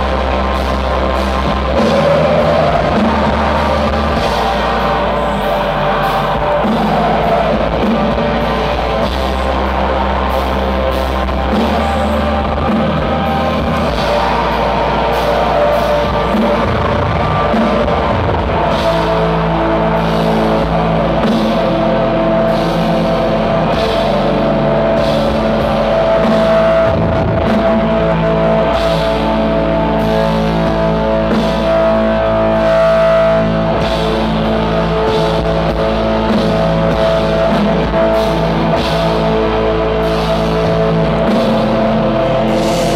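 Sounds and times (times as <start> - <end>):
metal band playing live: 0.0 - 42.9.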